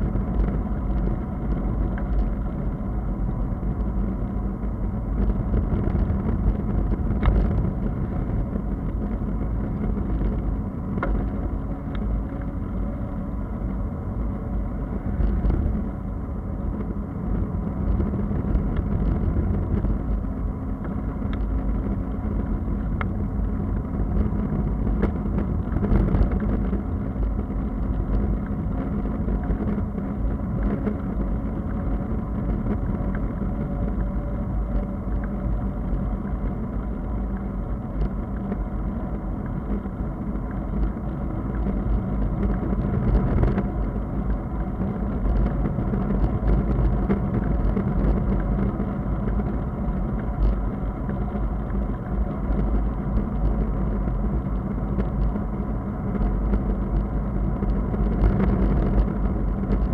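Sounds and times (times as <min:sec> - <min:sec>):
bicycle tyres rolling on asphalt: 0:00.0 - 0:59.9
wind rumble on microphone: 0:00.0 - 0:59.9.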